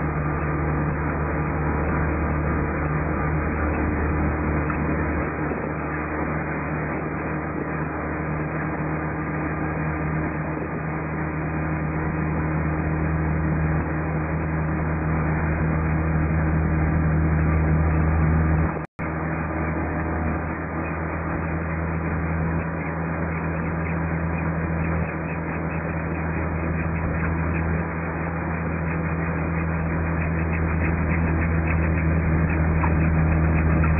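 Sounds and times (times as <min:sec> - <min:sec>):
car engine drone: 0:00.0 - 0:33.9
low hum: 0:00.0 - 0:33.9
tyre road noise: 0:00.0 - 0:33.9.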